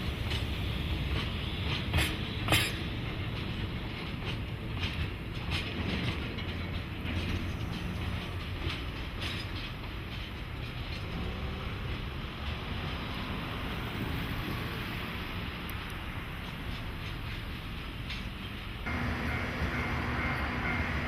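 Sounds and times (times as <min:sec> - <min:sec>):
train rumble: 0:00.0 - 0:21.0
wheels clicking over rail joints: 0:00.0 - 0:21.0.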